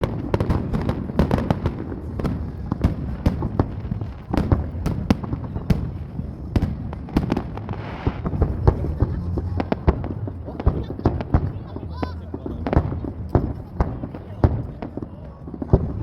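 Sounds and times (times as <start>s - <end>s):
fireworks bangs and crackles: 0.0s - 16.0s
low rumble of fireworks: 0.0s - 16.0s.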